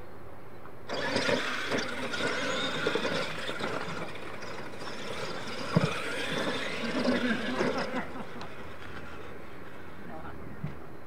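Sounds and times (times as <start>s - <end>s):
toy truck motors running: 0.8s - 10.2s
tyres churning dirt: 0.8s - 11.0s.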